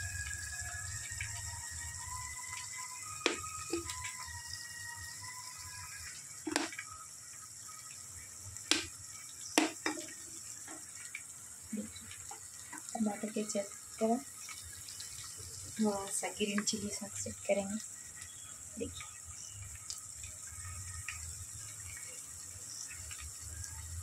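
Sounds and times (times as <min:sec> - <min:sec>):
vegetables sizzling in hot oil: 0:00.0 - 0:24.0.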